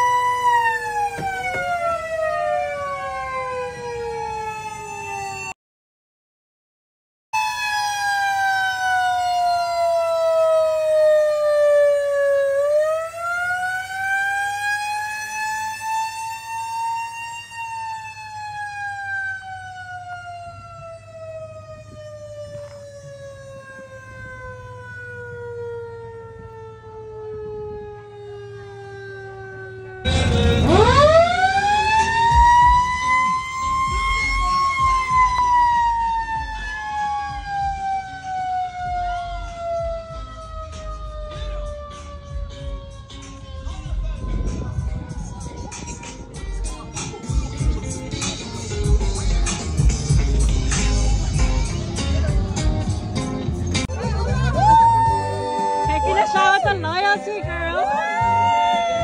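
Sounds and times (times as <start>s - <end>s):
siren wailing: 0.0s - 5.6s, 7.4s - 59.0s.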